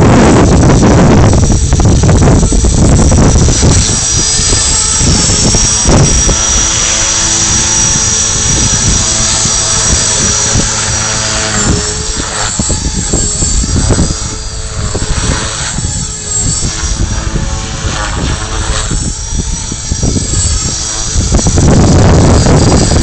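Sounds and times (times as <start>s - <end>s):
rc helicopter motor whine: 0.0s - 23.0s
wind buffeting microphone: 0.0s - 23.0s.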